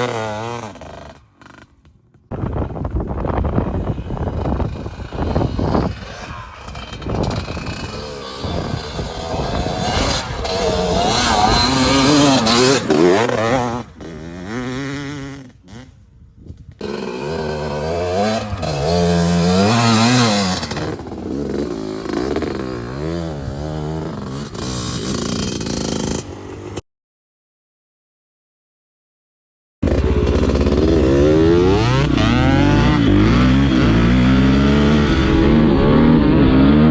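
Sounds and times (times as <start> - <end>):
two-stroke motorcycle engine revving: 0.0 - 16.0, 16.8 - 26.8, 29.8 - 36.9.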